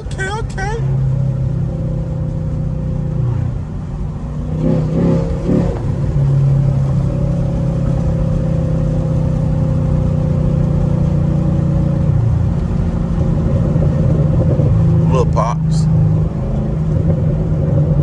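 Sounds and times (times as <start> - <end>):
car exhaust droning: 0.0 - 18.0.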